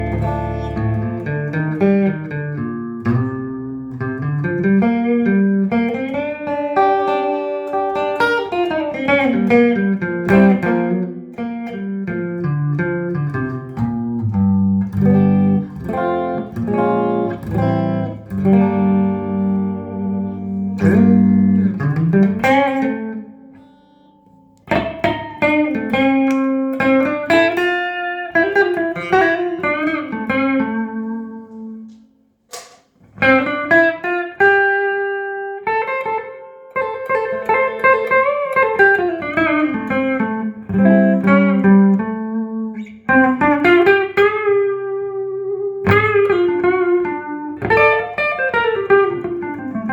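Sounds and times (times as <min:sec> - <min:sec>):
clean electric guitar: 0:00.0 - 0:49.9.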